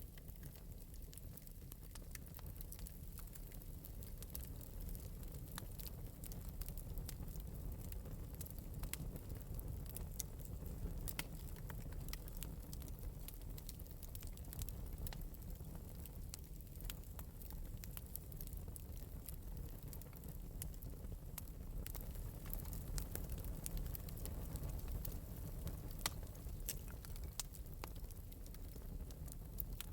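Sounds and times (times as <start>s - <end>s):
wood fire crackling and popping: 0.0s - 29.9s.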